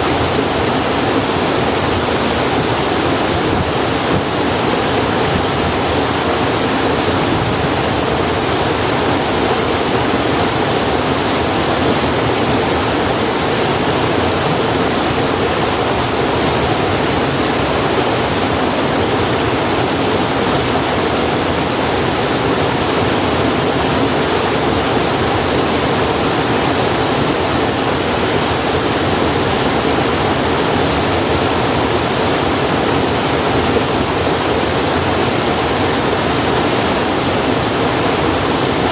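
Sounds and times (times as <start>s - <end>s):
steady rushing noise: 0.0s - 38.9s.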